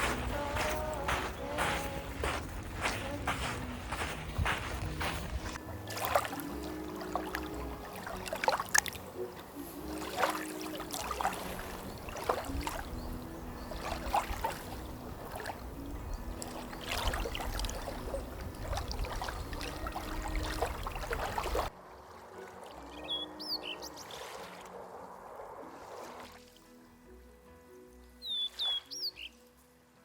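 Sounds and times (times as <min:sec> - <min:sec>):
waves lapping at shore: 0:00.0 - 0:26.8.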